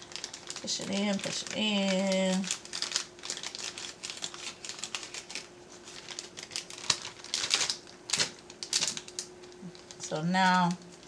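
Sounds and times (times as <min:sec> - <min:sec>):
faint steady hum: 0:00.0 - 0:11.0
plastic snack bag crinkling: 0:00.0 - 0:11.0.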